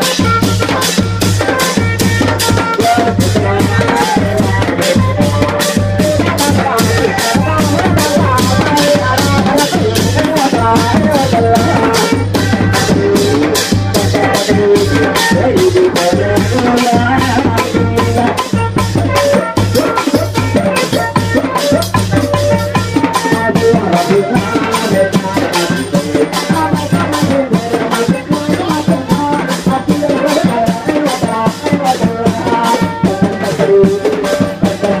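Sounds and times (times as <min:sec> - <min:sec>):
fast steady drumbeat: 0:00.0 - 0:35.0
procession music over loudspeakers: 0:00.0 - 0:35.0
rattling shaker percussion: 0:00.0 - 0:35.0.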